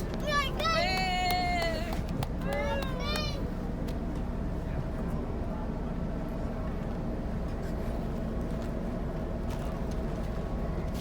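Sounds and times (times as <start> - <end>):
ship low rumble: 0.0 - 11.0.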